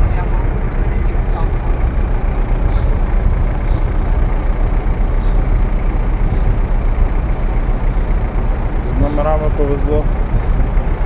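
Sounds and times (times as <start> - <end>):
engine running at low speed: 0.0 - 11.0.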